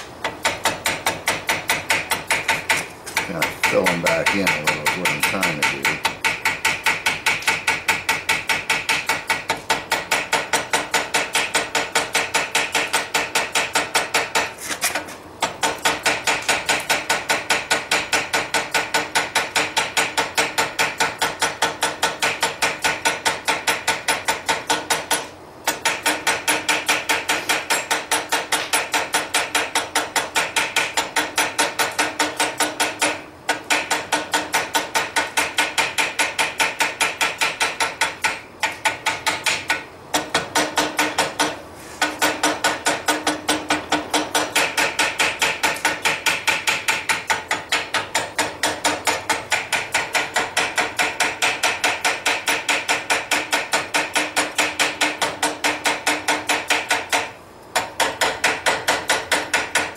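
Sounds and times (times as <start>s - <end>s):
hammer striking steel on anvil: 0.2s - 14.5s, 15.4s - 59.9s.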